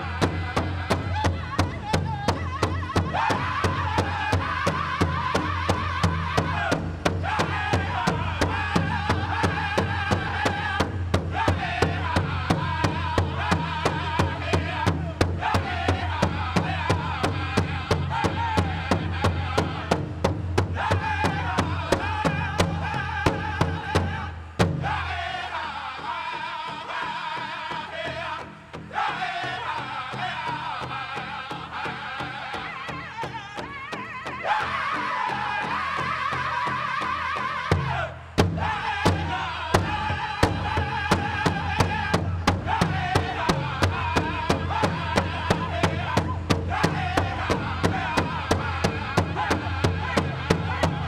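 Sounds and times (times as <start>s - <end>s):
high-pitched group singing: 0.0s - 19.9s, 20.7s - 51.0s
large drum struck in unison: 0.0s - 25.5s, 28.0s - 51.0s.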